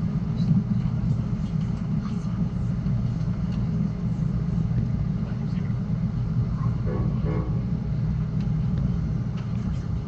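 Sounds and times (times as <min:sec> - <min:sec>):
train running at speed: 0:00.0 - 0:10.0.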